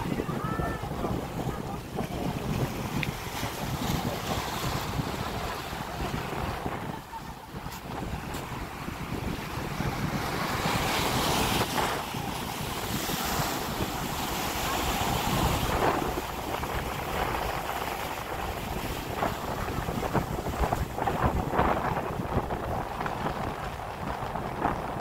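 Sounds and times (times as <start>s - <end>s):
choppy sea: 0.0s - 25.0s
waves splashing against rocks: 0.0s - 25.0s
wind buffeting microphone: 0.0s - 25.0s.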